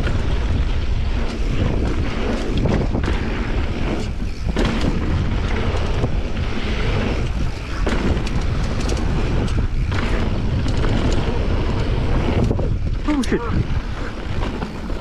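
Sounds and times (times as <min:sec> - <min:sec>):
bike clicks and rattles: 0:00.0 - 0:15.0
heavy rumble: 0:00.0 - 0:15.0
wind buffeting microphone: 0:00.0 - 0:15.0.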